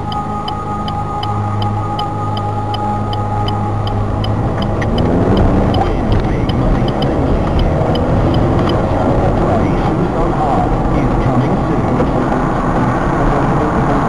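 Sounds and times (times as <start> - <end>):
car interior road and engine noise: 0.0 - 14.0
turn signal ticking: 0.0 - 14.0.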